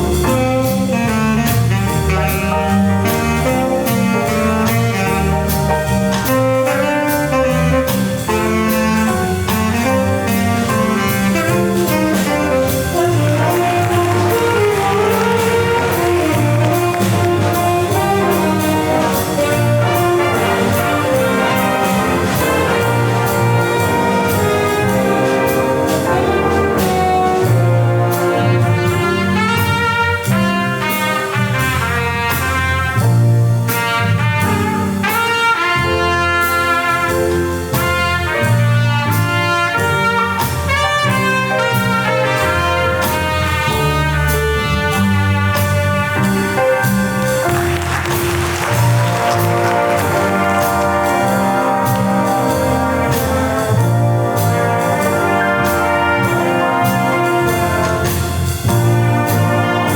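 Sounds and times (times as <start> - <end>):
jazz band playing: 0.0 - 59.9.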